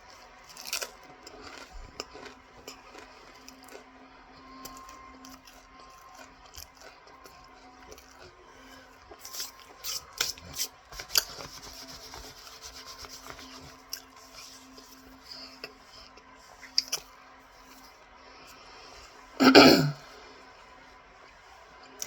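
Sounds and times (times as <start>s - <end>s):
crackly chewing crunches: 0.0s - 17.9s
rasping chewing grind: 0.0s - 18.7s
faint steady hum: 0.0s - 22.0s.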